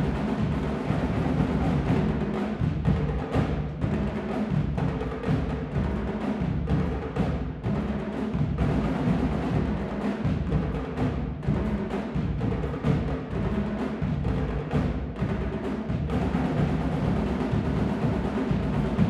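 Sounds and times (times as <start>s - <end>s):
marching drumline: 0.0s - 19.0s.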